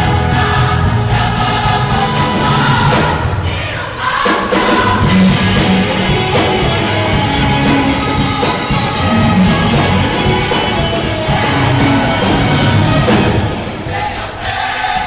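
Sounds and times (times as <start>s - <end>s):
music with singing voices: 0.0s - 15.0s.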